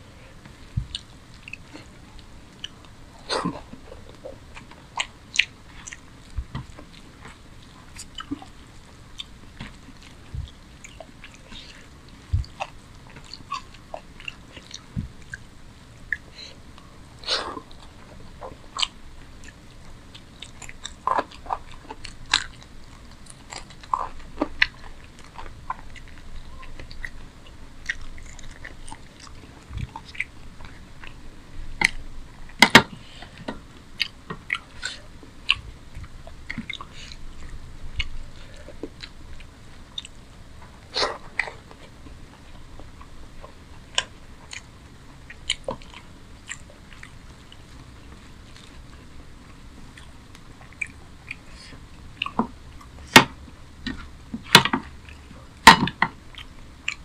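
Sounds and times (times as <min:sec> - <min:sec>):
man chewing food: 0:00.0 - 0:57.0.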